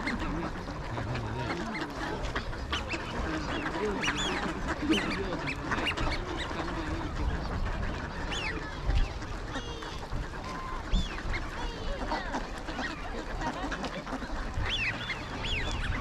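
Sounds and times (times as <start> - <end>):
flock of ducks quacking: 0.0 - 16.0.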